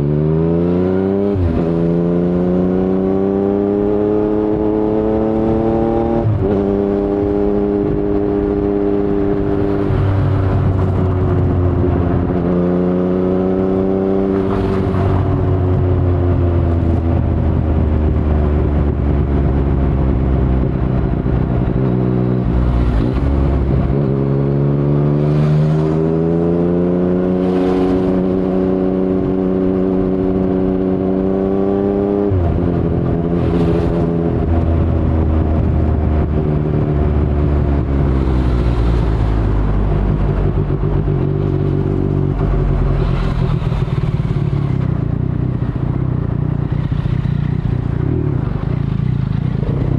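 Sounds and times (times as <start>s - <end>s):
low wind rumble: 0.0s - 49.9s
motorcycle engine accelerating: 0.0s - 49.9s.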